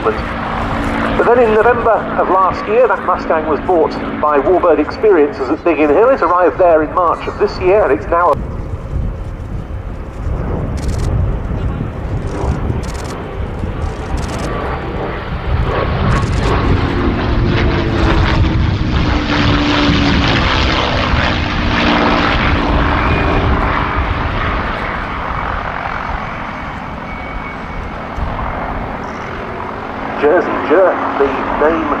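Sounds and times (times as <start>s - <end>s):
propeller aircraft engine passing: 0.0s - 32.0s.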